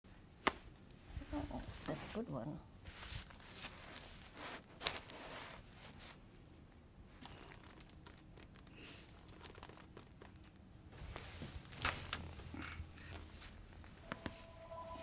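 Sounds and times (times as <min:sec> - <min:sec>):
rustling and crinkling: 0:00.4 - 0:15.0.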